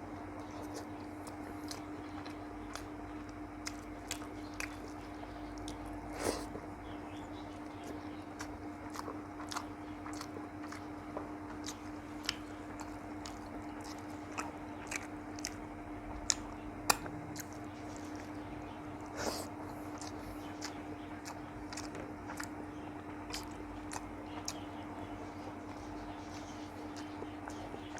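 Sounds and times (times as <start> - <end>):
steady low hum: 0.0 - 27.9
chewing and wet mouth clicks: 0.4 - 6.7, 7.6 - 22.6, 23.2 - 24.7, 25.7 - 27.9.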